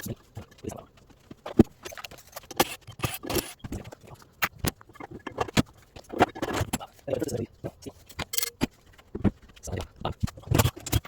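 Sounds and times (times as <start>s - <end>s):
tools clicking and scraping: 0.0s - 11.0s.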